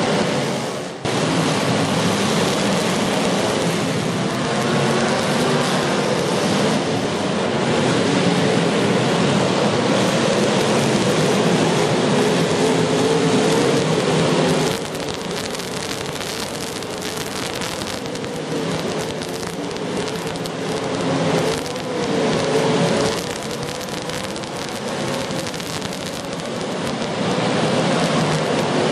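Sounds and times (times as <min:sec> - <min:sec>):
car engines revving: 0:00.0 - 0:28.9
sharp crackly clicks: 0:01.8 - 0:06.8, 0:09.5 - 0:28.9.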